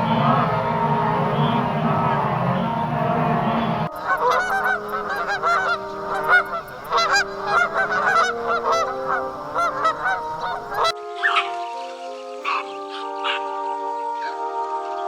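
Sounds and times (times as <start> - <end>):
waterfowl honking: 0.0 - 15.0.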